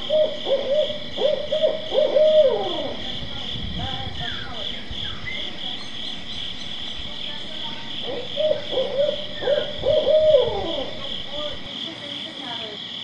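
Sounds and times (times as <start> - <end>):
bird hooting: 0.0 - 12.4
insects droning: 0.0 - 13.0.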